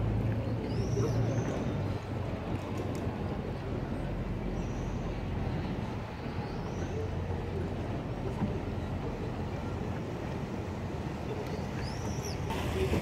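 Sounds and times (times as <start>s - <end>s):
faint voices: 0.0s - 13.0s
motorboat engines rumbling: 0.0s - 13.0s.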